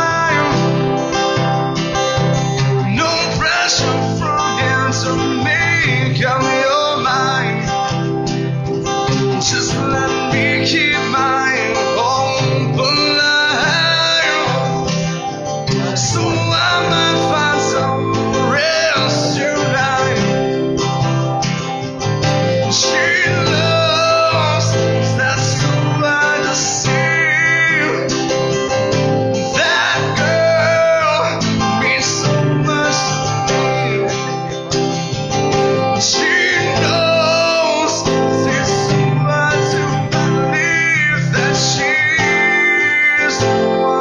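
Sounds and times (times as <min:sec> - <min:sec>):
man singing: 0:00.0 - 0:01.5, 0:02.2 - 0:21.2, 0:22.1 - 0:44.0
acoustic guitars playing: 0:00.0 - 0:44.0.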